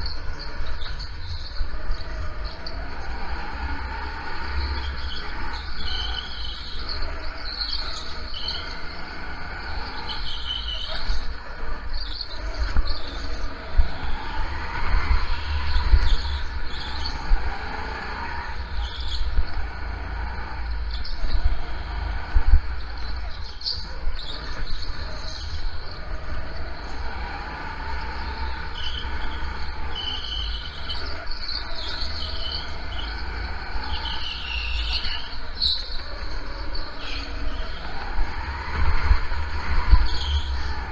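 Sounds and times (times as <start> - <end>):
go-kart engine rumbling: 0.0 - 40.9
tire squeals: 0.0 - 40.9.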